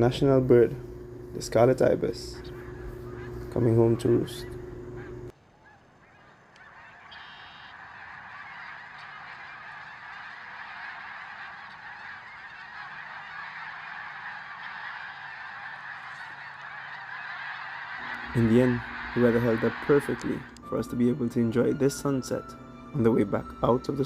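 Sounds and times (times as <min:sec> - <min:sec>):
flock of birds chattering: 0:00.0 - 0:24.0.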